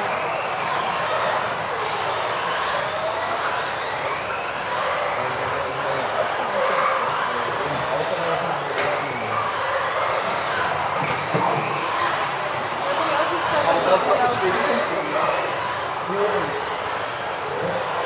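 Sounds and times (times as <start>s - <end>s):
electric toy car motors whining: 0.0s - 18.0s.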